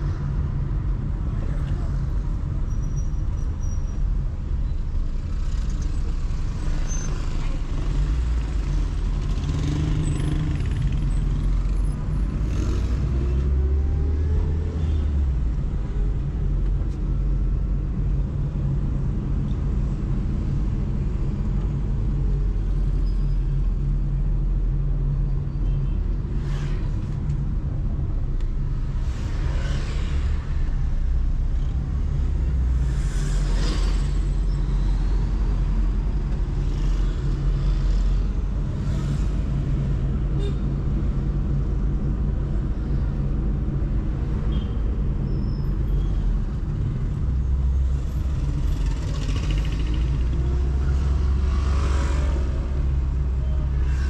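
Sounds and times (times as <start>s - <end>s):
car engine and tyre rumble: 0.0s - 54.0s
vehicles passing by: 0.0s - 54.0s.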